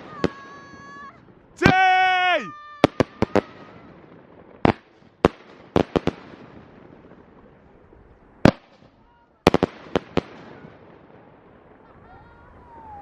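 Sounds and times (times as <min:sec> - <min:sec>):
fireworks banging: 0:00.0 - 0:12.1
crackling hiss of fireworks: 0:00.0 - 0:13.0.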